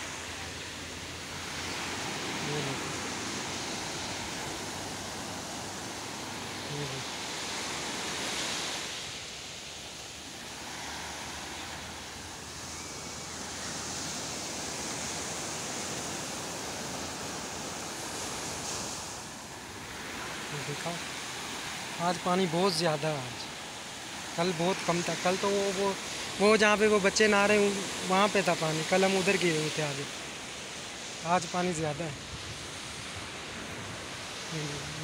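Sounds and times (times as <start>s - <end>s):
waves washing up a sandy beach: 0.0s - 35.0s.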